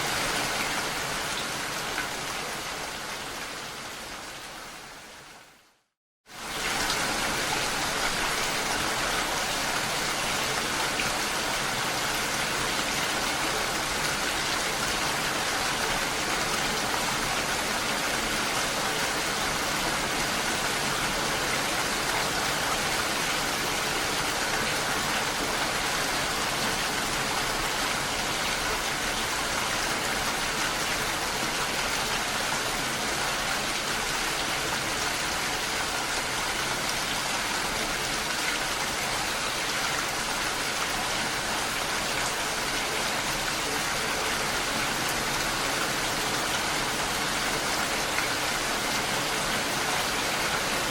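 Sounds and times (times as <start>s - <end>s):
rain falling on a lake: 0.0s - 50.9s.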